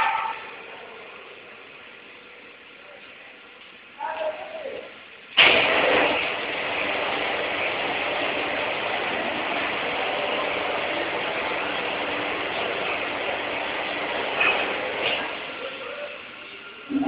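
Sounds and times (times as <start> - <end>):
industrial machinery drone: 0.0 - 17.0.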